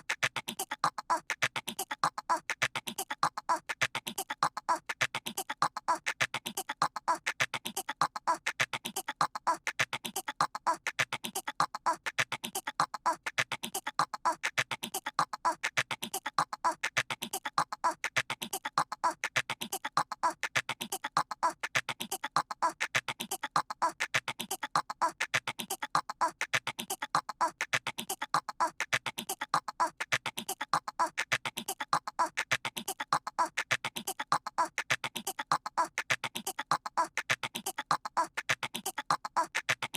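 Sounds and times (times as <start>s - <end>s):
cartoon toddler voice chattering: 0.0s - 39.9s.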